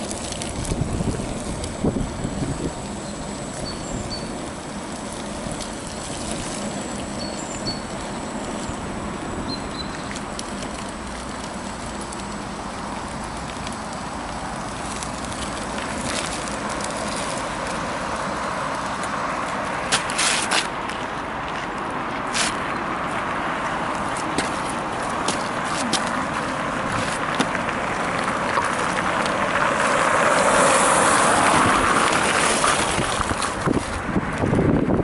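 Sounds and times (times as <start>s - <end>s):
wind and road noise: 0.0s - 35.0s.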